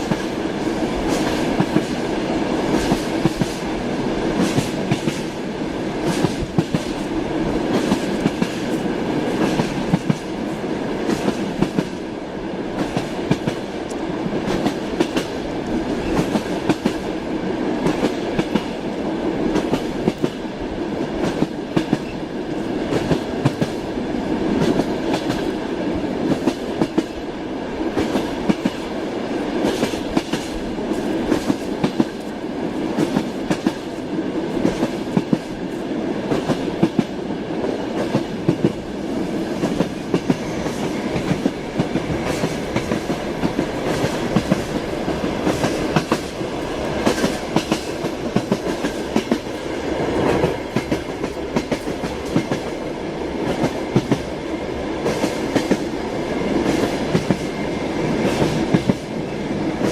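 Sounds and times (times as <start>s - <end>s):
moving train rumble: 0.0s - 59.9s.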